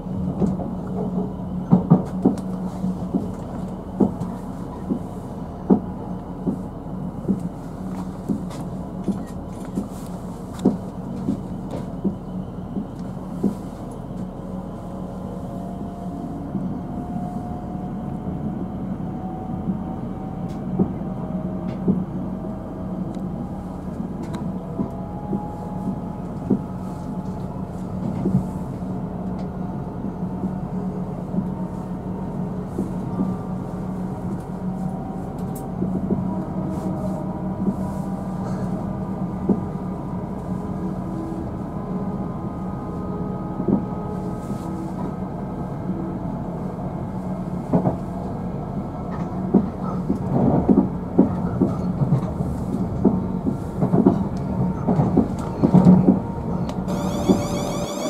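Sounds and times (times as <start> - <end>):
train interior hum: 0.0 - 58.0.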